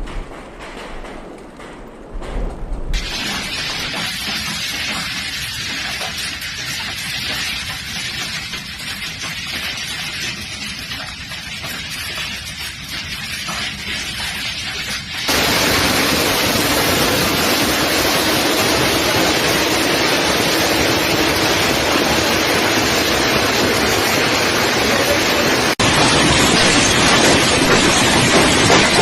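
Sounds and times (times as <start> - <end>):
hail pelting down: 0.0 - 29.0.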